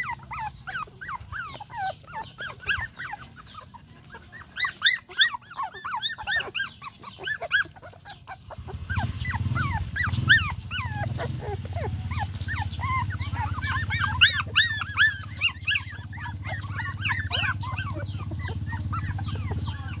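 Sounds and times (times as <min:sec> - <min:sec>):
puppies whimpering and squealing: 0:00.0 - 0:20.0.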